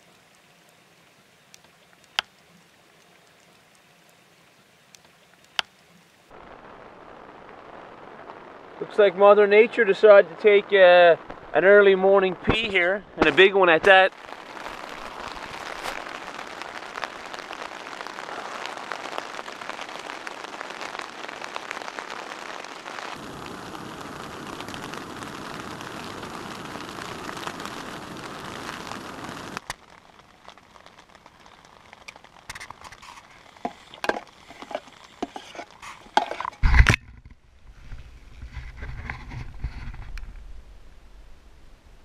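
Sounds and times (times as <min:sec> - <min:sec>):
rain pattering on a tent: 0:00.0 - 0:42.0.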